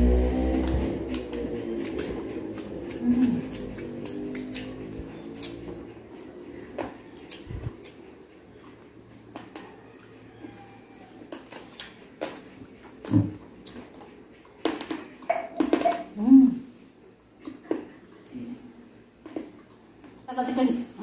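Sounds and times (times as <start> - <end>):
chewing crunchy food: 0.4 - 16.2, 17.2 - 20.3.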